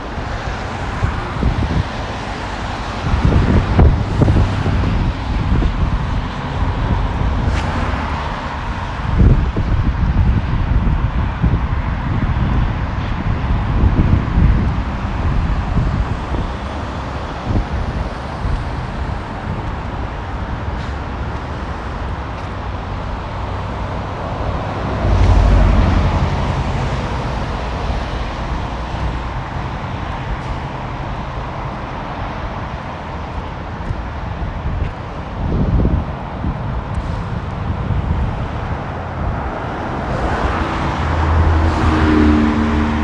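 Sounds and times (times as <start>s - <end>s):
traffic on wet street: 0.0s - 43.0s
wind buffeting microphone: 0.0s - 43.0s.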